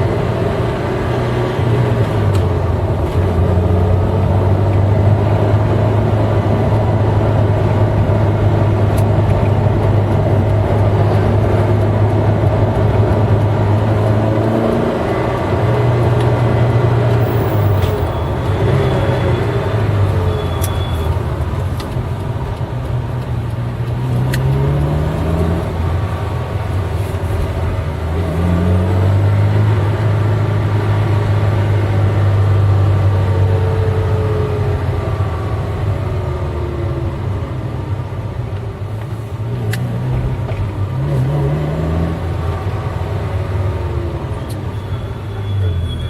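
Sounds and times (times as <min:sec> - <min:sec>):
car engine revving: 0:00.0 - 0:36.2, 0:39.4 - 0:44.6.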